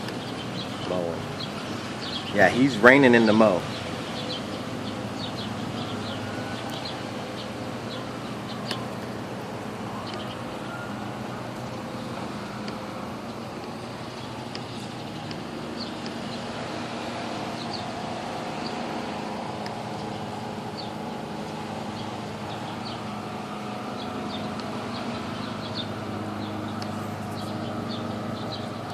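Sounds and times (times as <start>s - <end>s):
lawn mower engine running: 0.0s - 28.9s.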